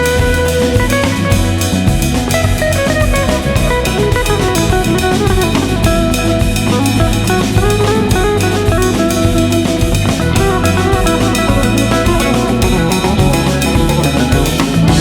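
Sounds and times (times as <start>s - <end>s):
music with drums and guitar: 0.0s - 15.0s.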